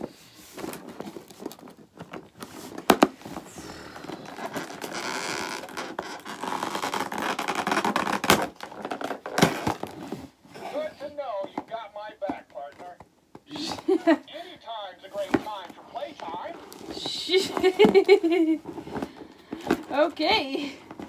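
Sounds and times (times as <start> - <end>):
plastic and cardboard crinkling: 0.0 - 21.0.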